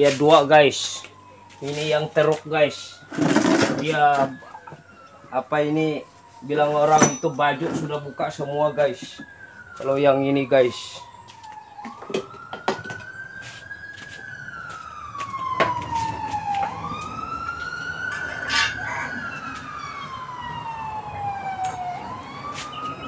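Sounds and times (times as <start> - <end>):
siren wailing: 0.0 - 23.0.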